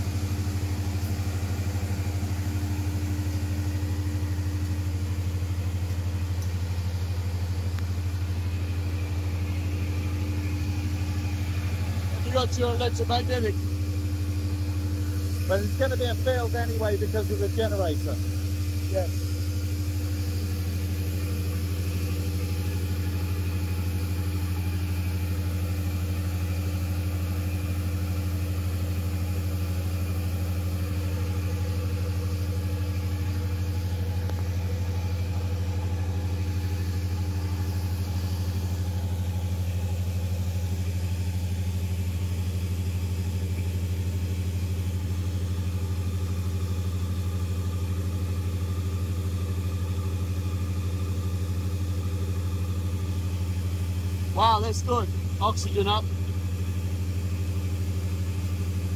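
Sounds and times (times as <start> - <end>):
gas generator engine droning: 0.0 - 58.9.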